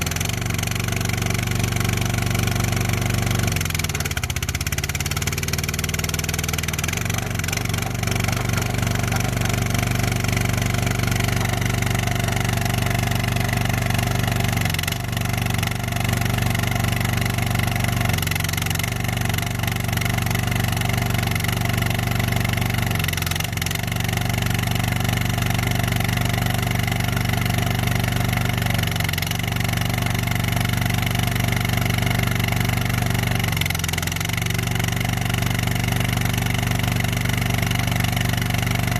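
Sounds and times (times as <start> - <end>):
skid steer engine under load: 0.0 - 38.9.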